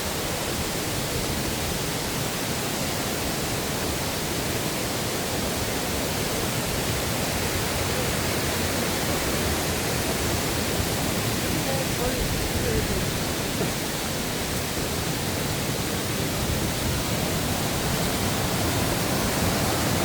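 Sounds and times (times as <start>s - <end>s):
water rushing in mountain stream: 0.0s - 20.0s.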